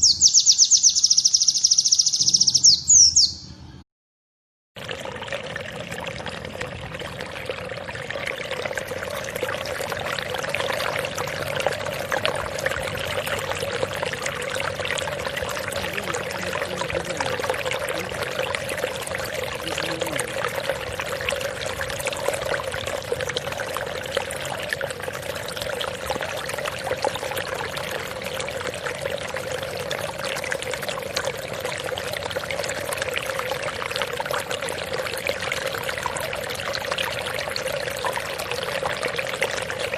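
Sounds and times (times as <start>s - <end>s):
running pouring water: 4.8s - 39.9s.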